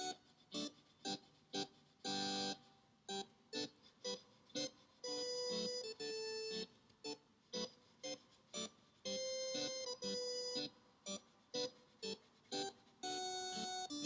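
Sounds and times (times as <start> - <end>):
held keyboard chords: 0.0 - 14.0.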